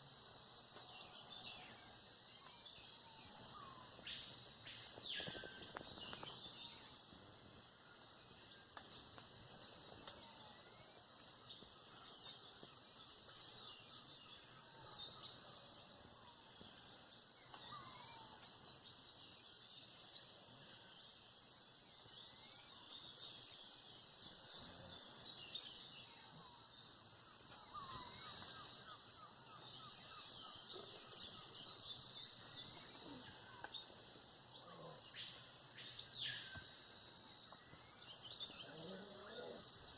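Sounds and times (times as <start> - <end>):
birds singing: 0.0 - 7.2, 8.0 - 20.5, 22.0 - 39.9.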